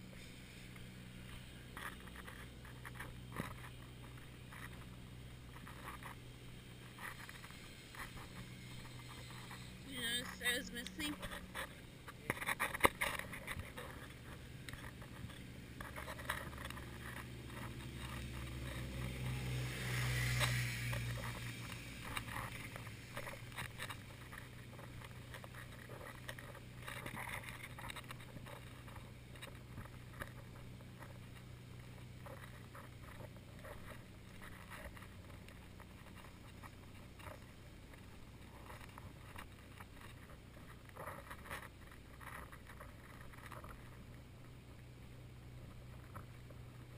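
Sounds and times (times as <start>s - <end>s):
low engine hum: 0.0s - 46.9s.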